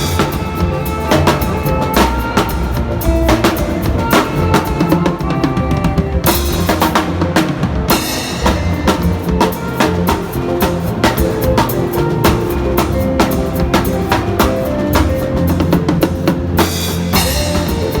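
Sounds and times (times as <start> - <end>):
drum kit playing a groove: 0.0 - 18.0.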